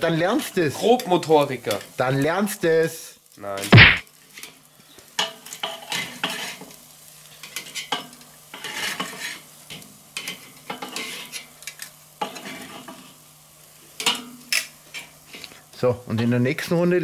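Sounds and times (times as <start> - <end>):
bacon sizzling: 0.0 - 17.0.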